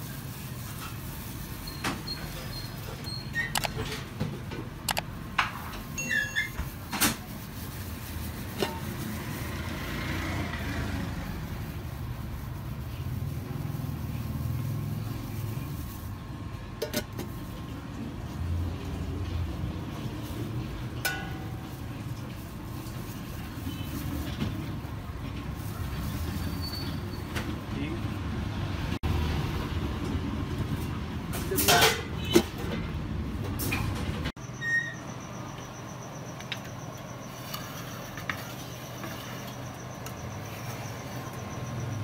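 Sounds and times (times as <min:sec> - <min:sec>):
street traffic rumble: 0:00.0 - 0:42.0.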